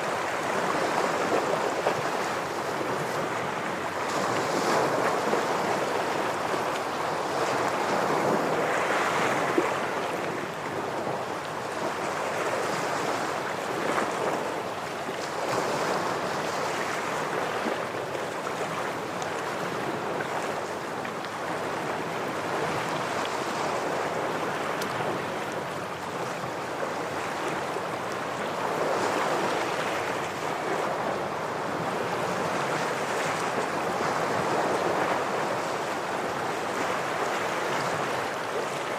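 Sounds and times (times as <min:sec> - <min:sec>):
ocean waves breaking on rocks: 0:00.0 - 0:38.9.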